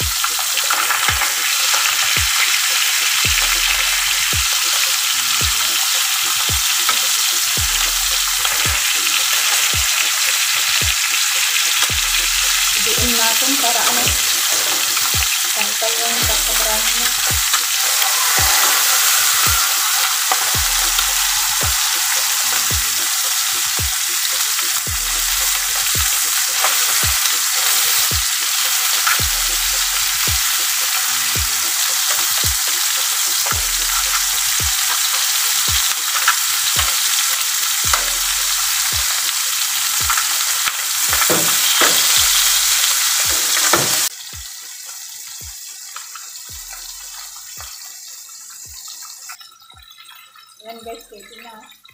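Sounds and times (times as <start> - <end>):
chicken sizzling in hot oil: 0.0 - 51.9.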